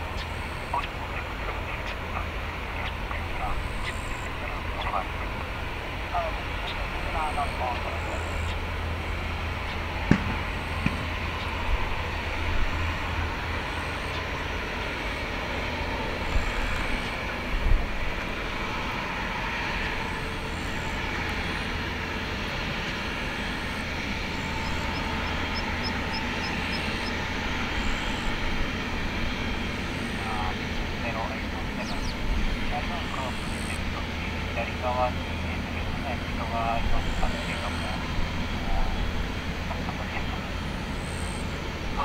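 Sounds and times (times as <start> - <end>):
aircraft taxiing rumble: 0.0 - 42.0.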